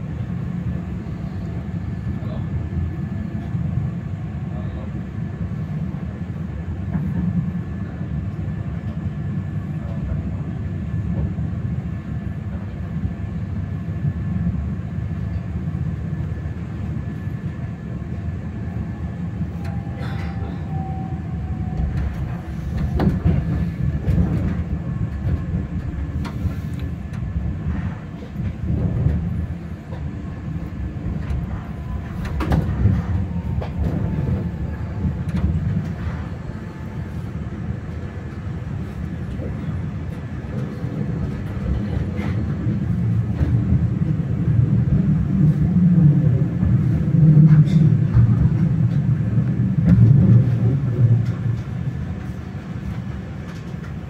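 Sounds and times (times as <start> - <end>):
train low rumble: 0.0 - 54.0
train passing alongside: 0.0 - 54.0.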